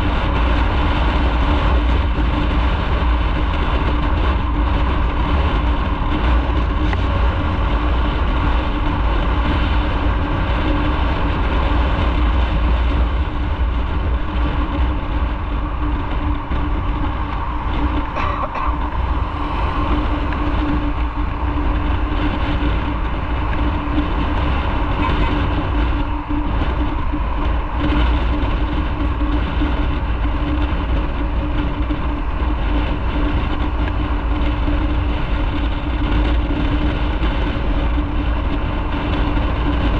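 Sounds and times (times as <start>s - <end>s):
motorcycle engine rumbling: 0.0s - 39.9s
wind and road noise: 0.0s - 39.9s.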